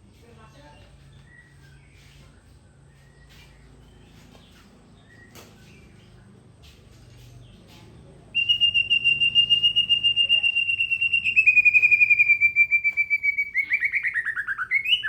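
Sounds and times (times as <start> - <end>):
faint songbird chirps: 0.0 - 6.4, 7.2 - 15.0.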